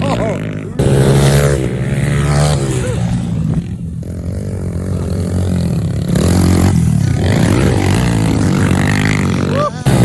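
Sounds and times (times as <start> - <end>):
vehicle engine revving: 0.2 - 10.0.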